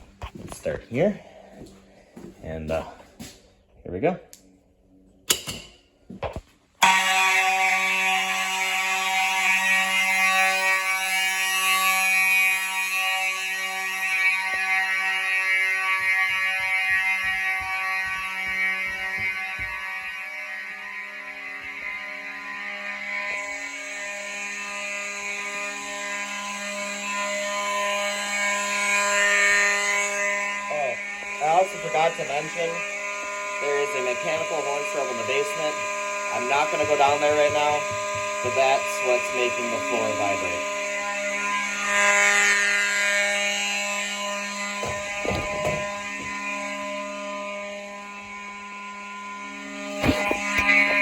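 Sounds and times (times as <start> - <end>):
fire alarm horns: 0.0 - 51.0
mechanical horn buzzing: 6.8 - 51.0.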